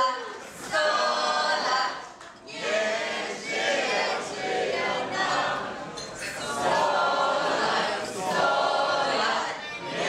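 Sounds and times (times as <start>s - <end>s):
crowd calling out and cheering: 0.0s - 10.0s.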